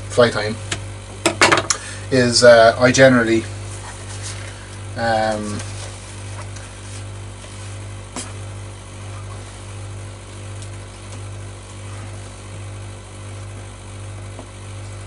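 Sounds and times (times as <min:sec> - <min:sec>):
pulsing low machine hum: 0:00.0 - 0:15.0.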